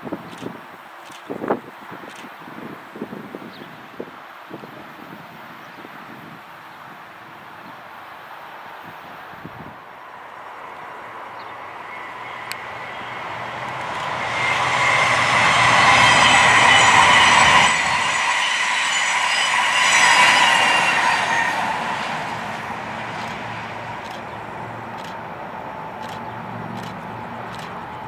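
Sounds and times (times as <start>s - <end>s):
high-speed train passing with whine: 0.0s - 28.0s.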